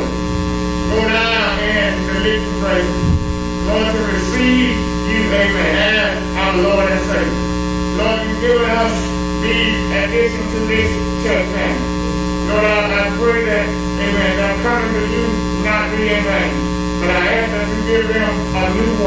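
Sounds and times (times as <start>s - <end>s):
indistinct voices: 0.0s - 7.4s, 8.0s - 19.0s
electrical mains hum: 0.0s - 19.0s.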